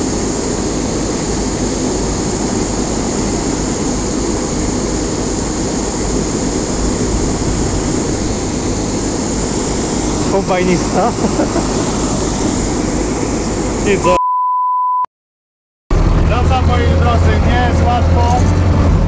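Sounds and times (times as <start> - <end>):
combine harvester engine: 0.0 - 14.2, 15.9 - 19.0.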